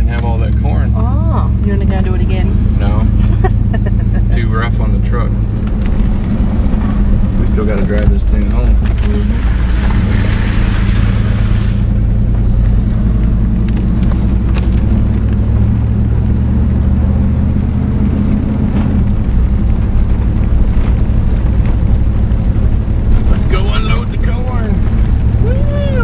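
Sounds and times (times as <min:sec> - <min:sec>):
truck engine low drone: 0:00.0 - 0:26.0.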